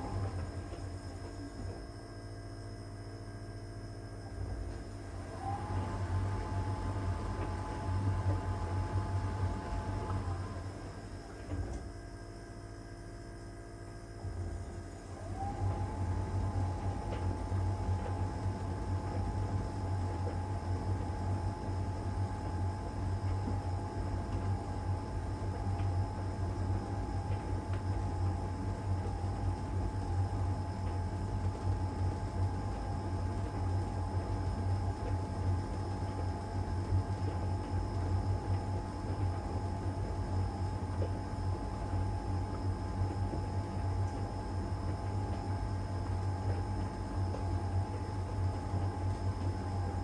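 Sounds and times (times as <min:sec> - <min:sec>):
tumble dryer running: 0:00.0 - 0:01.8, 0:04.3 - 0:12.0, 0:14.2 - 0:50.0.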